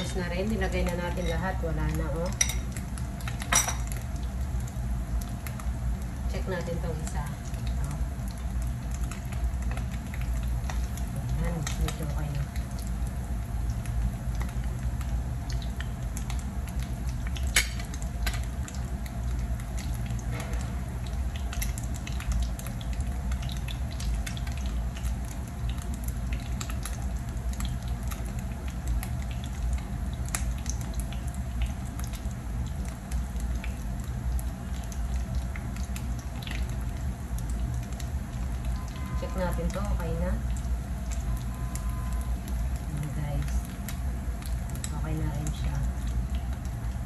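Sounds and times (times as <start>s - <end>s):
oil popping and crackling: 0.0s - 47.0s
patties sizzling in oil: 0.0s - 47.0s.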